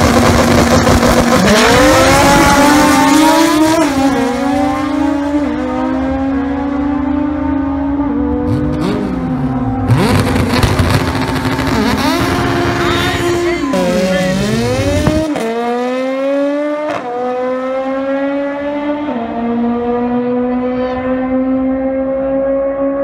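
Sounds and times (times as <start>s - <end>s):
drag car engine accelerating: 0.0s - 23.0s.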